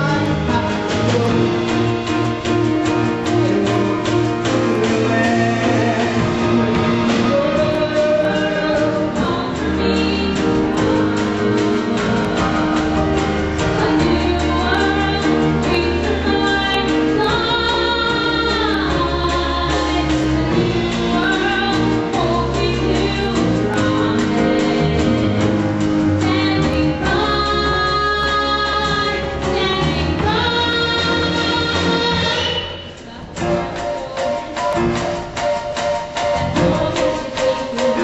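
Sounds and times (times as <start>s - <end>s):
woman singing: 0.0s - 35.3s, 36.3s - 38.0s
live band with drums: 0.0s - 38.0s.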